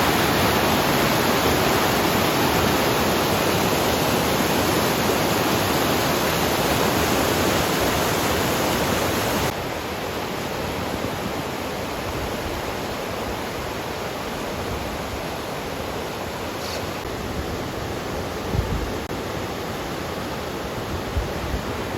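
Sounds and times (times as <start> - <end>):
river water rushing: 0.0 - 21.9.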